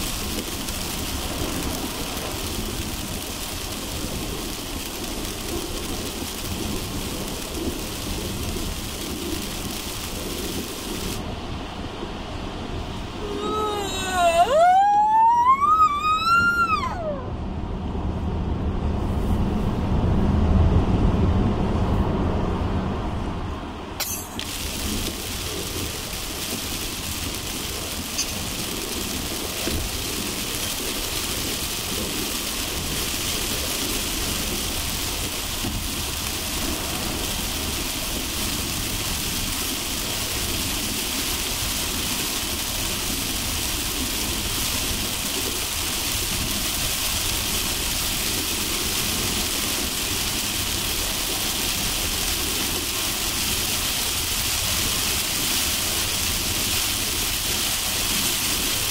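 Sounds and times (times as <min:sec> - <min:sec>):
heavy rain hissing: 0:00.0 - 0:17.7, 0:23.6 - 0:58.9
car driving on highway: 0:00.0 - 0:58.9.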